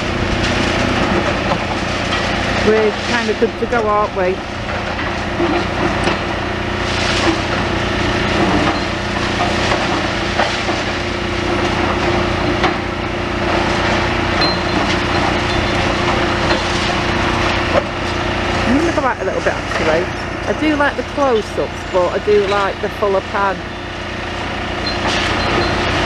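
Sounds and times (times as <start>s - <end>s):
timber and masonry breaking: 0.0s - 22.8s
excavator engine running: 0.0s - 26.0s.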